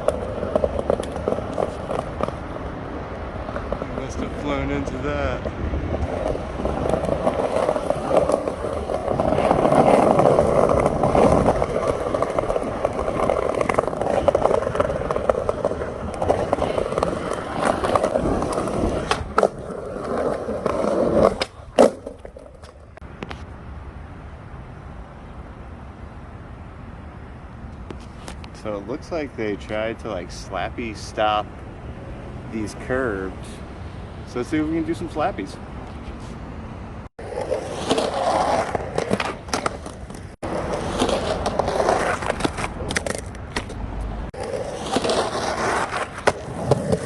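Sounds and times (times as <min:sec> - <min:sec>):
skateboard wheels rolling on pavement: 0:00.0 - 0:47.0.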